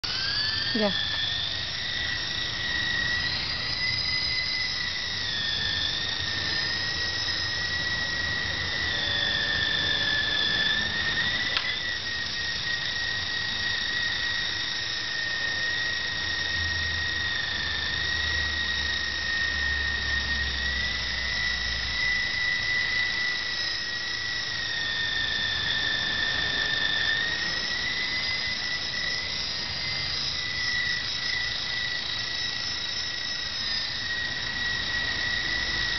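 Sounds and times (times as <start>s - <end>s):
toy helicopter rotor whine: 0.0s - 35.9s.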